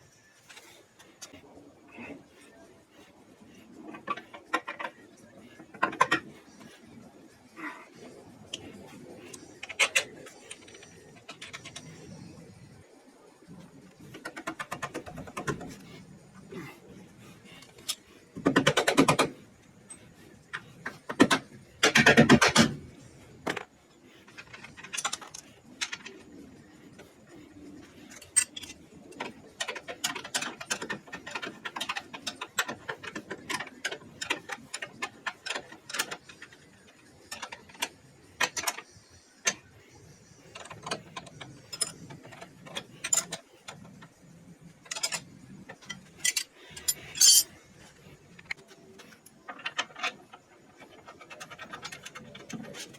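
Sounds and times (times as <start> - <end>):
tools and metal parts clinking: 0.4 - 6.8, 8.5 - 12.4, 14.0 - 16.7, 17.4 - 22.8, 23.4 - 39.7, 40.5 - 52.9.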